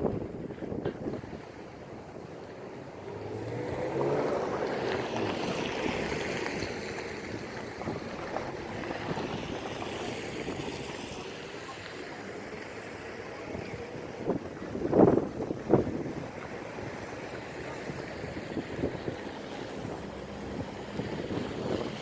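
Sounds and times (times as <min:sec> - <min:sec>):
low engine hum: 0:00.0 - 0:22.0
wind on microphone: 0:00.0 - 0:22.0.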